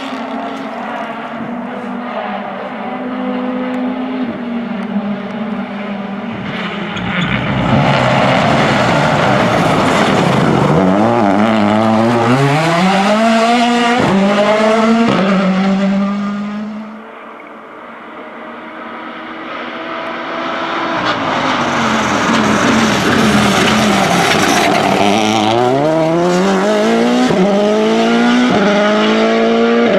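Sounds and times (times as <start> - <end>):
rally car engine passing: 0.0 - 29.9.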